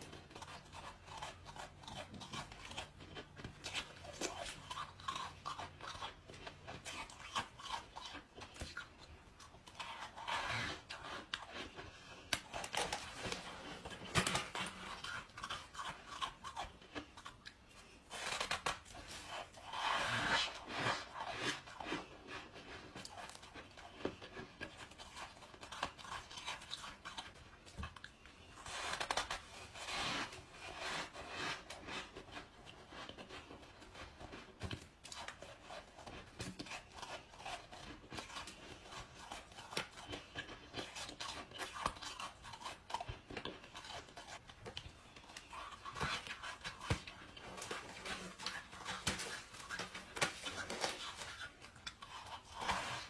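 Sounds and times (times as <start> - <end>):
person chewing ice: 0.0 - 53.0.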